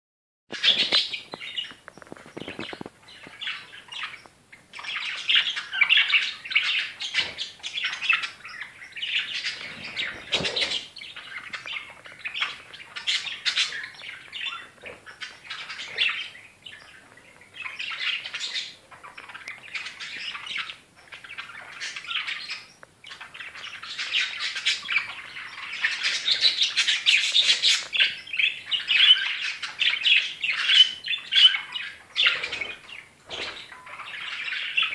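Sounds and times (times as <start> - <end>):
budgerigars chirping: 0.5 - 34.9.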